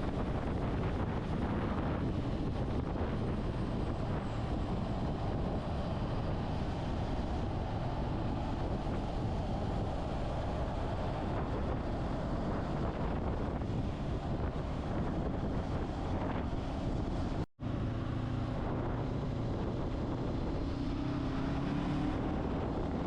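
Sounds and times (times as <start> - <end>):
motorcycle engine and road noise: 0.0 - 23.0
wind rushing over microphone: 0.0 - 23.0.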